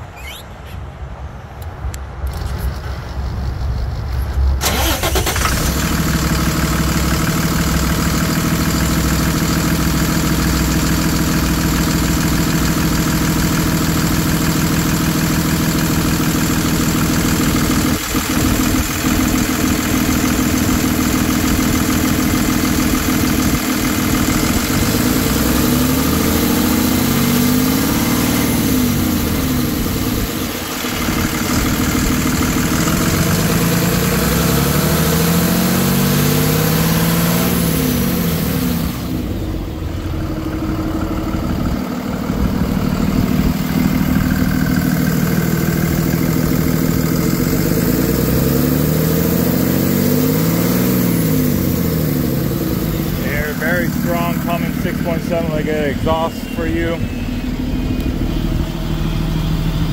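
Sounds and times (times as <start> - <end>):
diesel truck engine starting and idling: 1.2 - 59.9.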